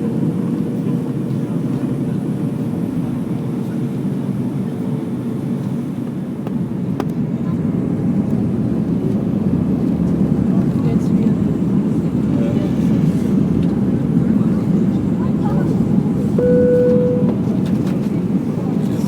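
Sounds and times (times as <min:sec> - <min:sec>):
jet engine cabin noise: 0:00.0 - 0:19.0.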